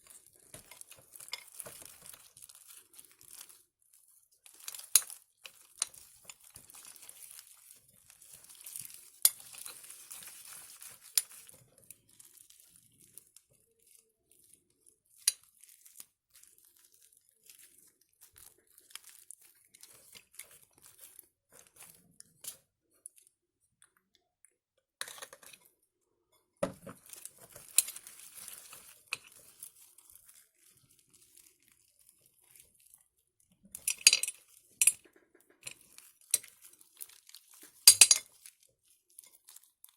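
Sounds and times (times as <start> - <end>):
slime squelching and crackling: 0.0 - 24.6, 25.6 - 39.9.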